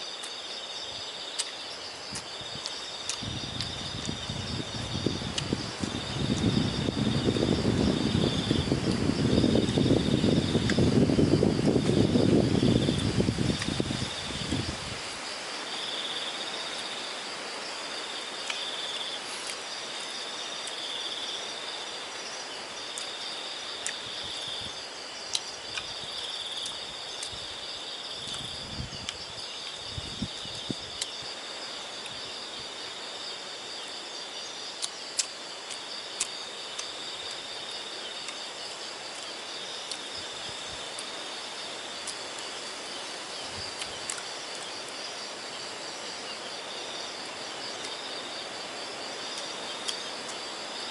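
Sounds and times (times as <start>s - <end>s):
insect high-pitched trill: 0.0s - 50.9s.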